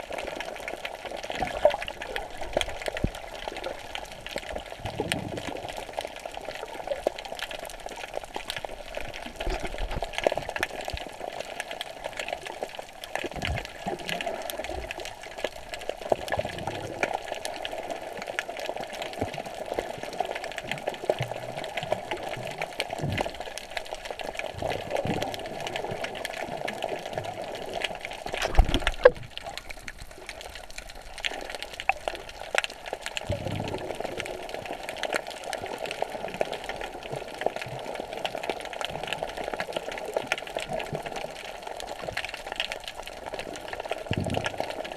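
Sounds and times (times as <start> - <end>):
muffled underwater rush: 0.0 - 38.6
small underwater clicks: 0.0 - 44.9.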